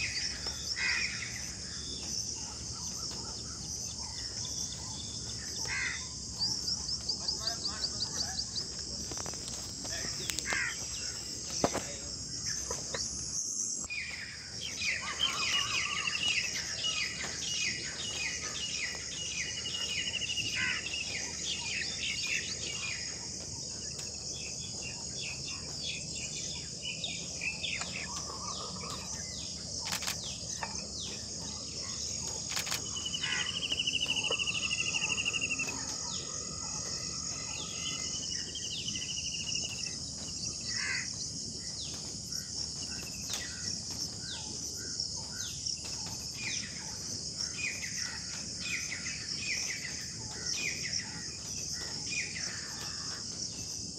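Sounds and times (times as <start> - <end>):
high insect drone: 0.0 - 53.9
small birds chirping: 0.0 - 53.9.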